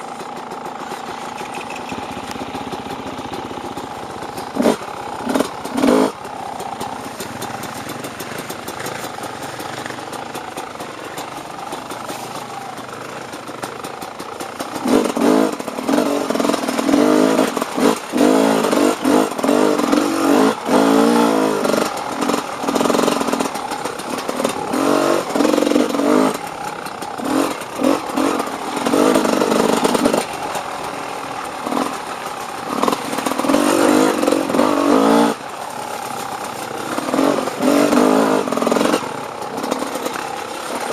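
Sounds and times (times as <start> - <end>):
dirt bike engine revving: 0.4 - 10.0, 14.4 - 40.9.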